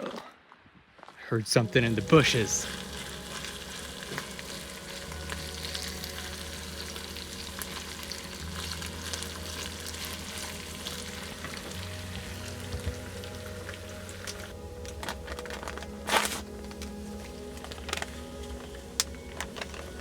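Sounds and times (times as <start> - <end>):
crackling sizzle with ticks: 1.5 - 20.0.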